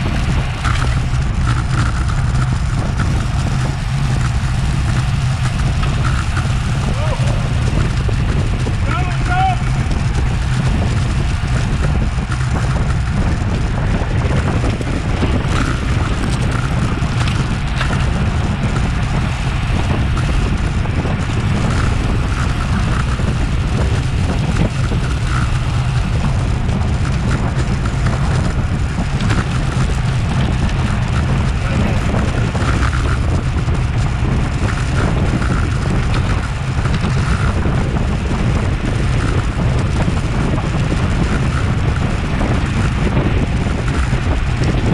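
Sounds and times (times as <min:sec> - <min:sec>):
bicycle tyres hissing on road: 0:00.0 - 0:44.9
wind buffeting microphone: 0:00.0 - 0:44.9.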